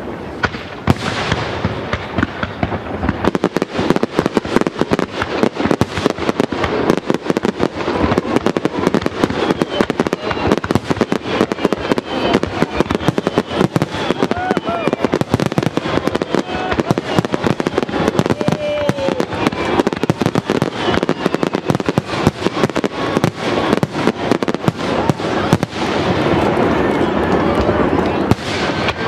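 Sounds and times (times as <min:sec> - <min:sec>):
fireworks crackling: 0:00.0 - 0:29.0
firework bang: 0:00.4 - 0:27.0.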